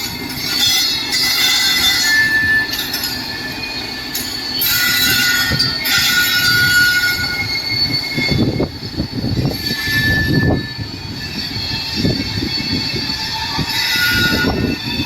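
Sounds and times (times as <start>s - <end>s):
rumbling and knocking of railcars: 0.0s - 15.0s
train wheels squealing on rails: 0.0s - 15.0s.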